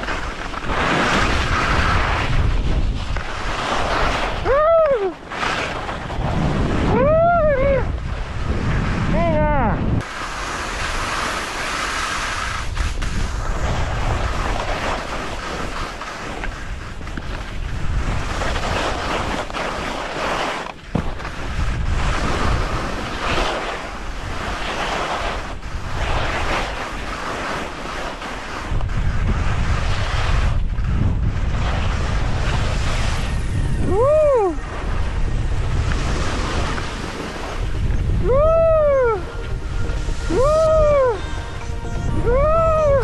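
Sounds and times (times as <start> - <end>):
skis hissing over snow: 0.0 - 6.9, 10.0 - 41.6
wind buffeting microphone: 0.6 - 19.8, 20.9 - 28.0, 28.6 - 43.0.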